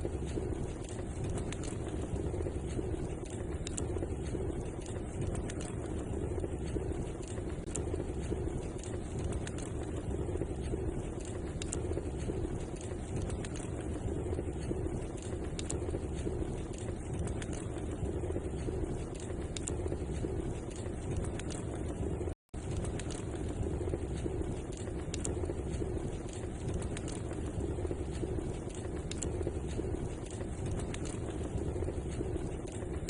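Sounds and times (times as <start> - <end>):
fire burning in a fireplace: 0.0 - 33.0.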